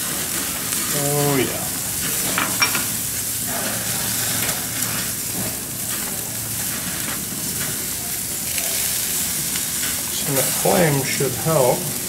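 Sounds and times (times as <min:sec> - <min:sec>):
fish sizzling on a grill: 0:00.0 - 0:12.0.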